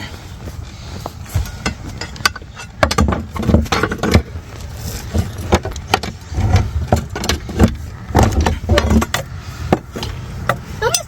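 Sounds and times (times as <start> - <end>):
knocking rattling and clicking: 1.4 - 4.4, 5.0 - 11.0.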